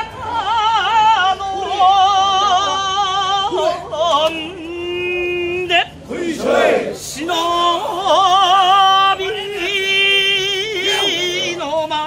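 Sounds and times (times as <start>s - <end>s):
men singing a chant: 0.0s - 12.0s.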